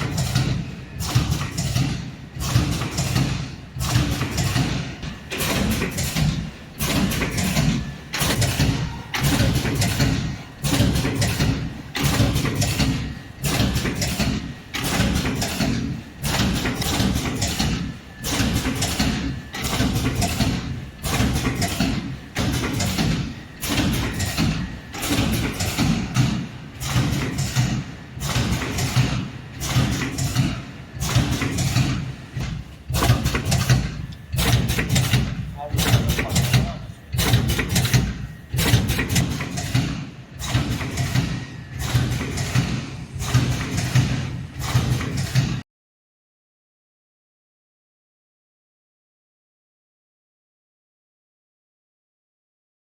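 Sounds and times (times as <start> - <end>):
packaging machine rhythmic cycle: 0.0 - 45.6.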